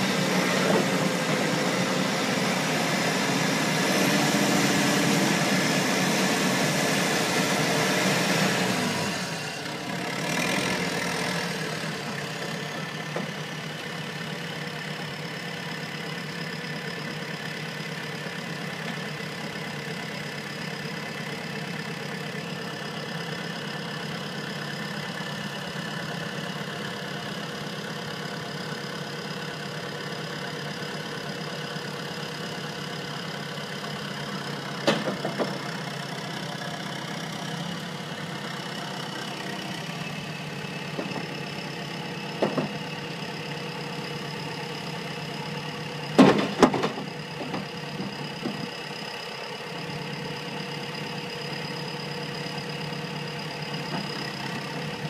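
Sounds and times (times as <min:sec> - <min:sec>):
backhoe engine idling: 0:00.0 - 0:05.7, 0:06.4 - 0:55.0.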